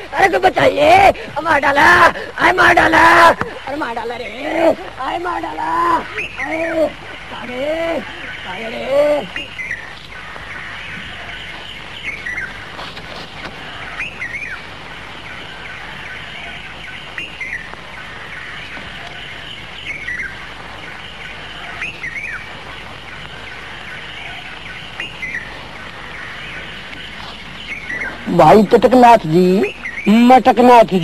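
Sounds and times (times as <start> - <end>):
birds chirping: 0.0 - 31.0
steady background hiss: 0.0 - 31.0.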